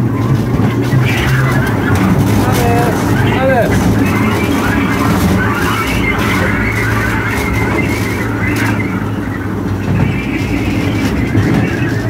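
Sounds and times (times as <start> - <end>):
ride train humming: 0.0 - 12.0
wheels rumbling on rails: 0.0 - 12.0.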